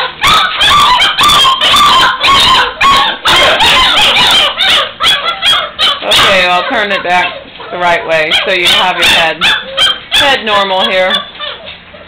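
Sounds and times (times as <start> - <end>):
puppies crying and yelping: 0.0 - 12.0.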